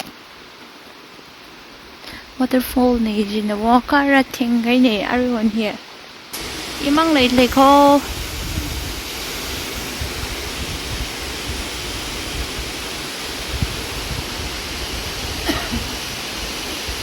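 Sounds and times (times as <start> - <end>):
waterfall roaring: 0.0 - 17.0
wind on microphone: 2.4 - 5.7, 6.4 - 17.0.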